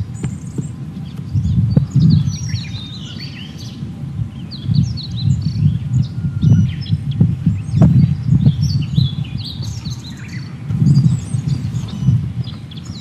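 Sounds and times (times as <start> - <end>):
bird singing high whistled notes: 0.0 - 13.0.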